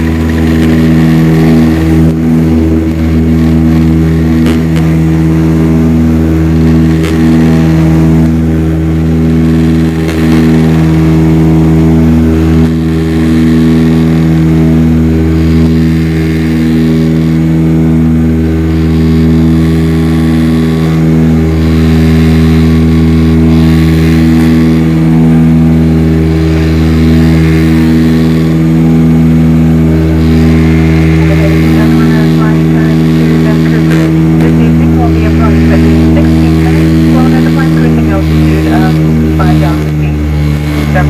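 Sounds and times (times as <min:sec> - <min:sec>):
propeller engines droning: 0:00.0 - 0:41.0.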